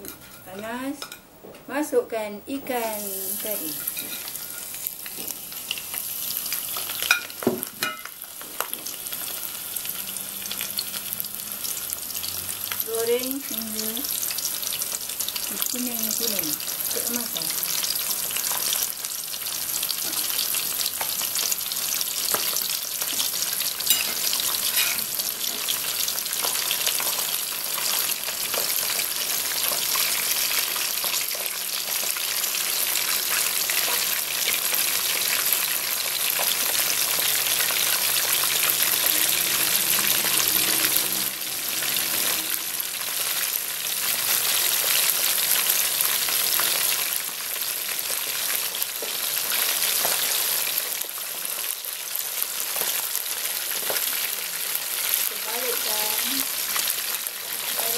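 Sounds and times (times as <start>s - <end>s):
oil sizzling around frying fish: 2.6s - 57.9s.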